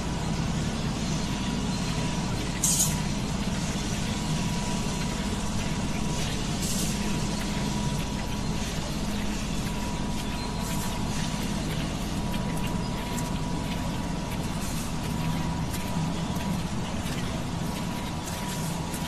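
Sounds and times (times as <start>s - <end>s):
faint steady whine: 0.0s - 19.0s
low mechanical hum: 0.0s - 19.0s.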